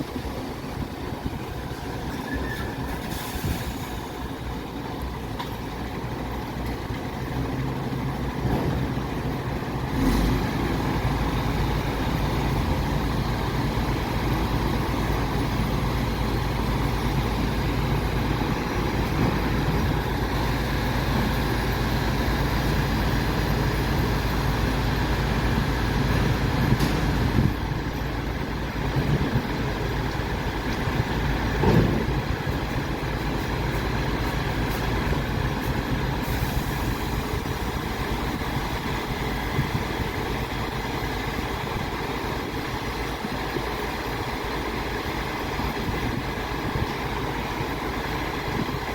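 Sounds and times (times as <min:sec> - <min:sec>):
garbage truck diesel engine drone: 0:00.0 - 0:48.9.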